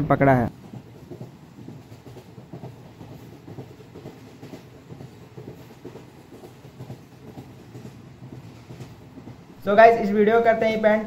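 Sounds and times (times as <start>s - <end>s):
train rumbling on track: 0.0s - 11.0s
train wheels clattering: 0.5s - 11.0s.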